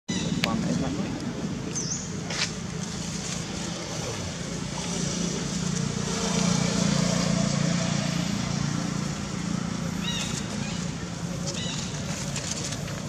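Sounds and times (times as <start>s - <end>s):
vehicle engine humming: 0.1s - 13.0s.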